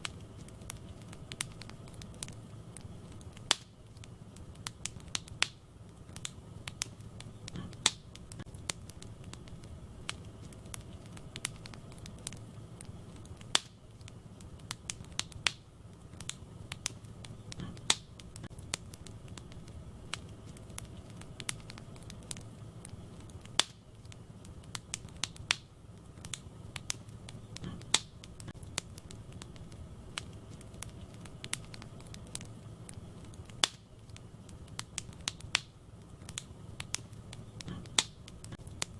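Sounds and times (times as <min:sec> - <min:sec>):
low rumble of burning: 0:00.0 - 0:38.9
wood fire crackling: 0:00.0 - 0:38.9.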